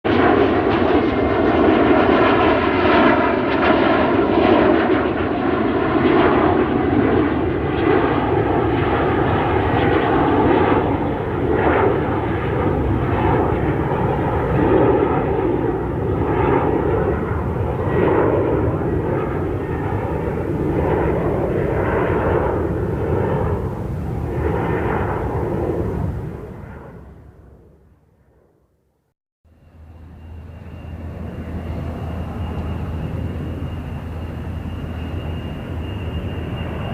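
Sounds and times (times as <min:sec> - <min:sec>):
jet engines running: 0:00.1 - 0:27.8, 0:29.5 - 0:36.9.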